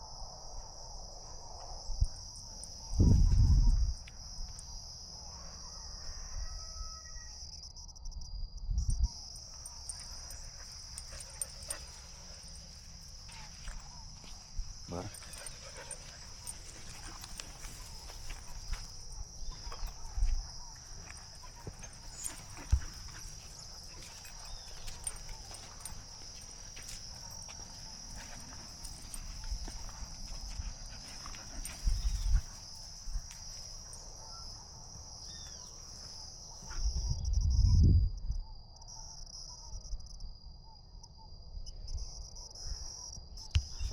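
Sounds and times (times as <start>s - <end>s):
insects singing: 1.9s - 7.8s, 9.0s - 37.2s, 42.1s - 43.9s.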